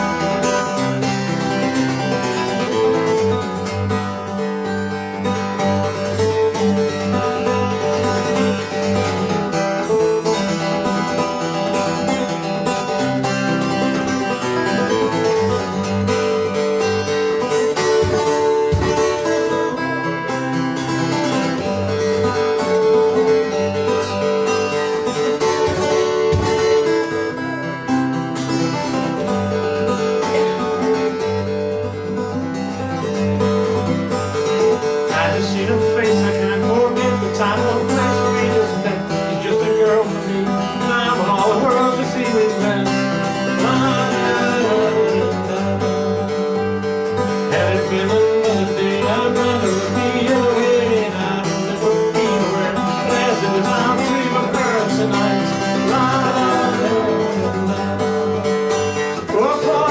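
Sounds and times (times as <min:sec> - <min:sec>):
acoustic guitar plucked notes: 0:00.0 - 0:59.9.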